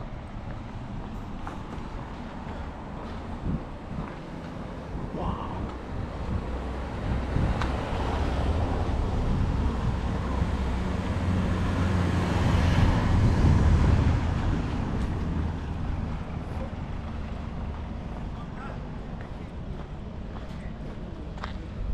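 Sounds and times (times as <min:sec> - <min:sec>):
vehicle engine rumble passing: 0:00.0 - 0:21.9.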